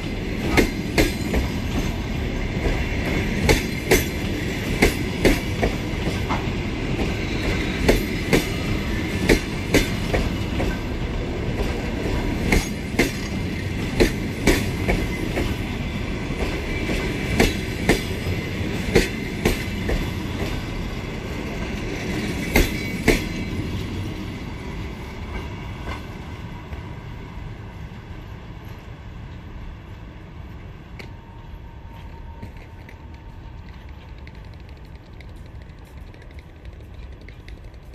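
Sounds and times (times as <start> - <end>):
train rumble: 0.0 - 37.9
train wheels clicking over rail joints: 0.1 - 24.2, 30.9 - 37.9.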